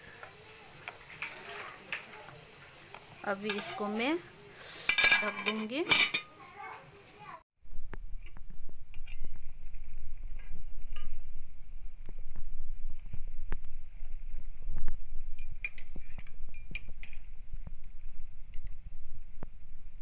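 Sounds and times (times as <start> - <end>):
stew boiling with pops: 0.0 - 5.0, 7.8 - 20.0.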